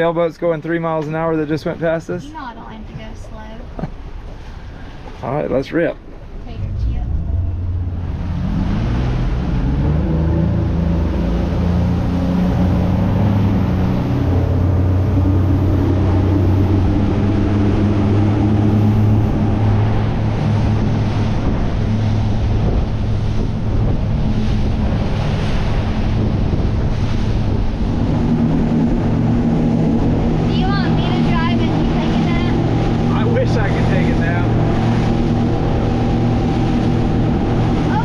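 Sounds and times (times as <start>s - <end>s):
outboard motor humming: 0.0s - 38.0s
water rushing from wake: 0.0s - 38.0s
wind on microphone: 6.4s - 38.0s.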